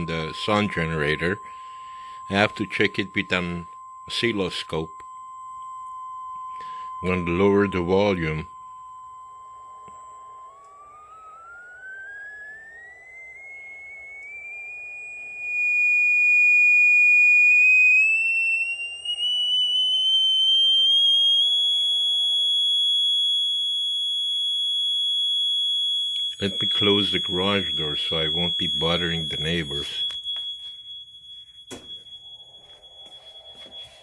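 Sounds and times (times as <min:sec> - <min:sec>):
sine-wave test tone rising: 0:00.0 - 0:34.0.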